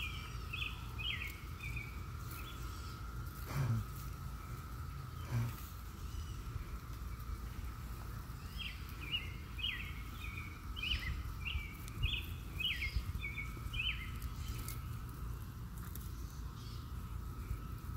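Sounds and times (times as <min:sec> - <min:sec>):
cicadas humming: 0:00.0 - 0:17.9
songbird chirping: 0:00.0 - 0:17.9.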